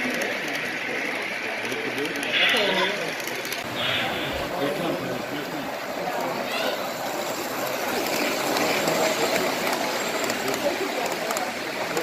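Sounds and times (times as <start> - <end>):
model train rattling on track: 0.0 - 3.7, 4.4 - 12.0
murmur of voices: 0.0 - 12.0.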